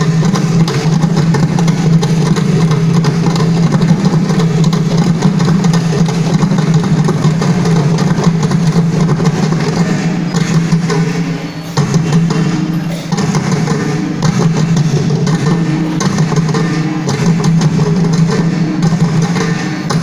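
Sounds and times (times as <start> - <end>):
barrel drums playing fast: 0.0 - 20.0.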